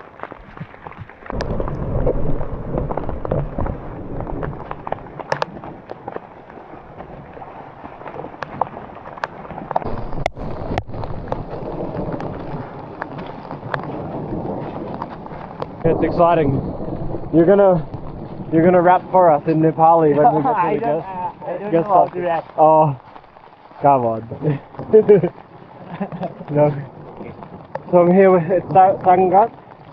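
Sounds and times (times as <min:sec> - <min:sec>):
low wind rumble on microphone: 0:00.0 - 0:29.9
rain tapping close to microphone: 0:00.0 - 0:29.9.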